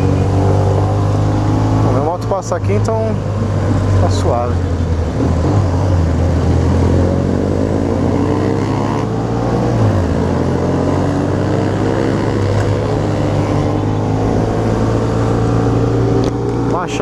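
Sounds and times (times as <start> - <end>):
low engine drone: 0.0 - 17.0
motorcycle engines accelerating: 0.0 - 17.0.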